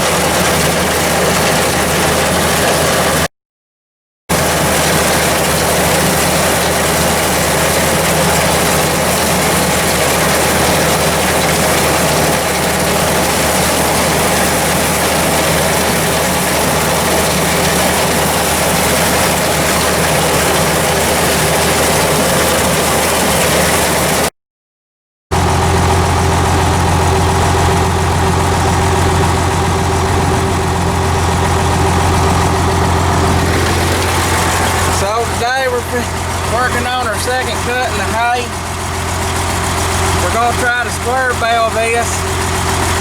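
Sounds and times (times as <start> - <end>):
tractor engine running: 0.0 - 3.3, 4.3 - 24.3, 25.3 - 43.0.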